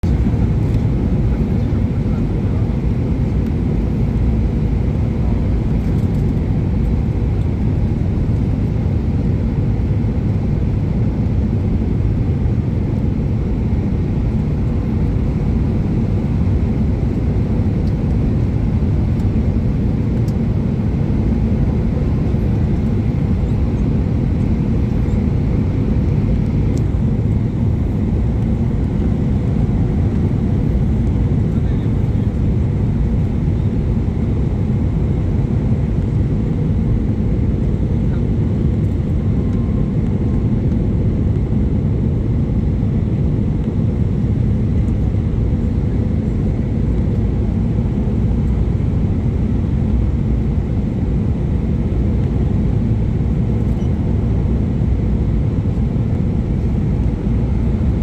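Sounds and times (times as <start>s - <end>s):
airliner engines rumbling in cabin: 0.0s - 58.0s.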